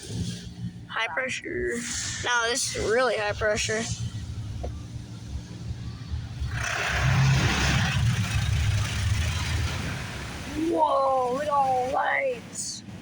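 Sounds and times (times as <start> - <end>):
low rumble: 0.0 - 11.9
water jets spraying car: 1.8 - 13.0.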